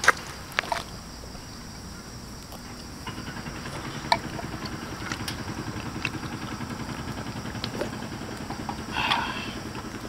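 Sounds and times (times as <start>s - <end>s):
fire crackling: 0.0s - 10.0s.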